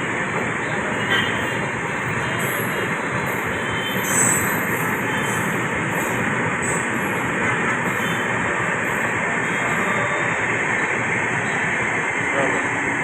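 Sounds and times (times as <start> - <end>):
passenger train running: 0.0 - 13.0.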